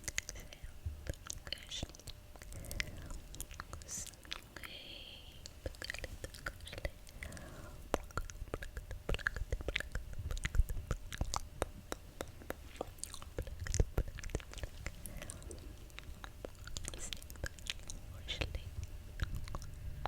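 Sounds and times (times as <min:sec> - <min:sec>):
wet mouth clicks and smacks: 0:00.0 - 0:04.8, 0:05.4 - 0:19.8.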